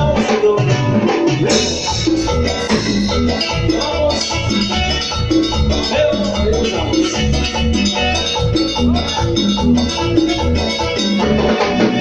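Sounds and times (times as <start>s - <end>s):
latin dance band playing: 0.0s - 12.0s.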